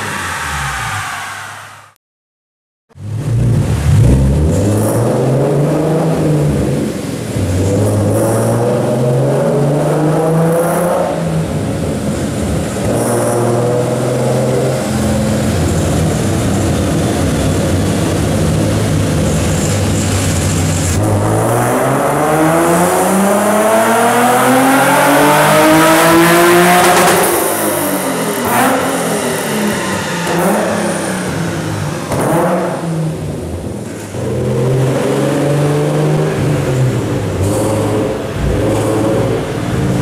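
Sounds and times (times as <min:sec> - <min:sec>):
car engine revving on dyno: 0:00.0 - 0:02.0, 0:03.0 - 0:40.0.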